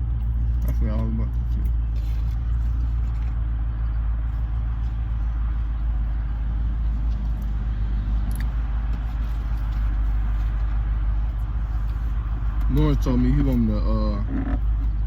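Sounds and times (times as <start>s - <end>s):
car rumbling inside cabin: 0.0s - 15.0s.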